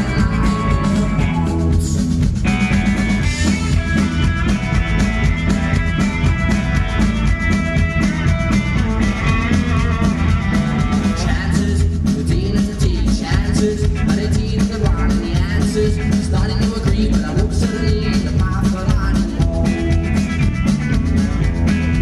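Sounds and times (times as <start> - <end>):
drum kit beat: 0.0 - 22.0
live rock band playing: 0.0 - 22.0.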